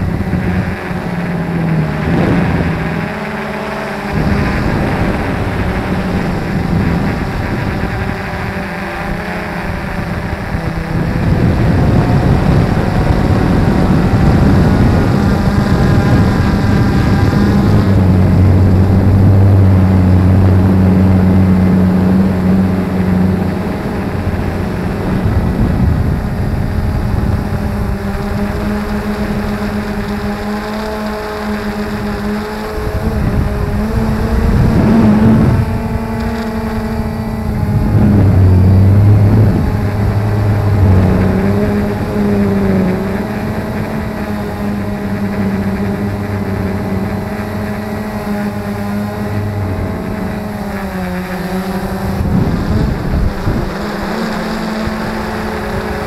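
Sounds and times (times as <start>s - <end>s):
drone propellers buzzing: 0.0s - 56.0s.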